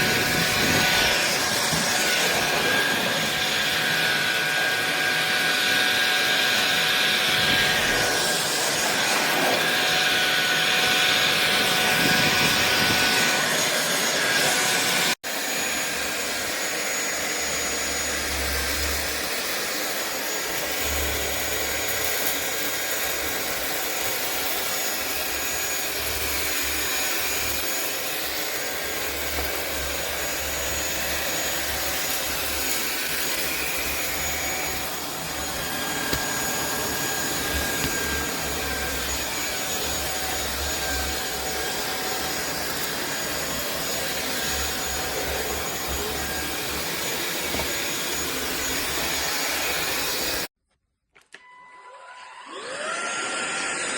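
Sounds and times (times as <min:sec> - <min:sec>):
stick vacuum cleaner whining: 0:00.0 - 0:50.5, 0:51.2 - 0:53.9.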